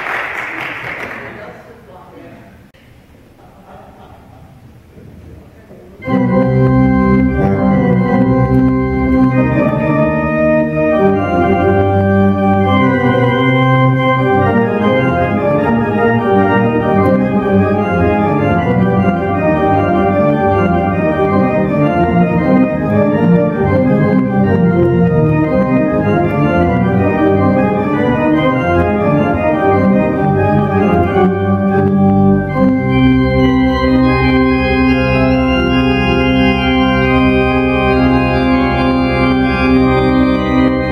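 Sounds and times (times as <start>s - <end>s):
deep organ pedal bass: 6.0s - 40.9s
pipe organ playing chords: 6.0s - 40.9s.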